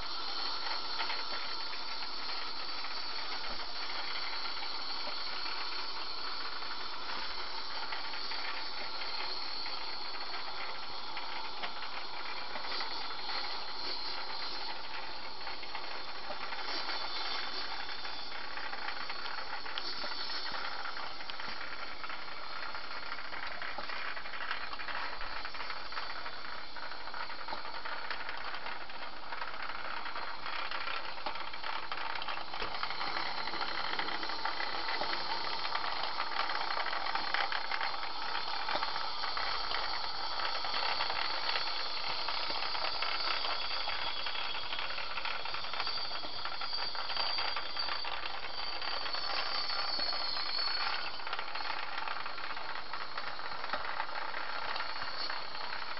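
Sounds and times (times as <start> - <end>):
model train motors rattling: 0.0 - 55.9
thin high whine: 0.0 - 55.9.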